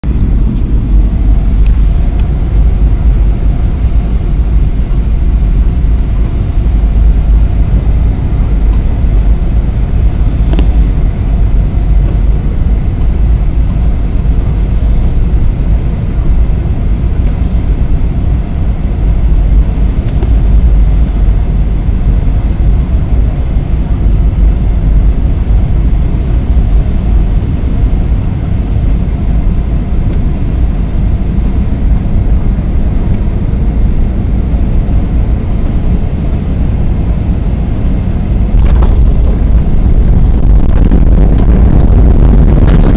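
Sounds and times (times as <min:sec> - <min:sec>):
airplane cabin rumble: 0:00.0 - 0:42.9
faint high whining tones: 0:00.0 - 0:42.9.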